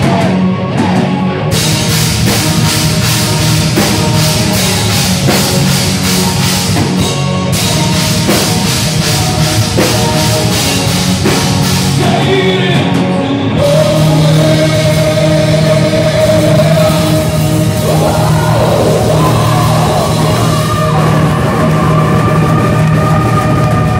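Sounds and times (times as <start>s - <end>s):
distorted electric guitars: 0.0s - 23.9s
drums and cymbals: 0.0s - 23.9s
person singing: 0.0s - 23.9s.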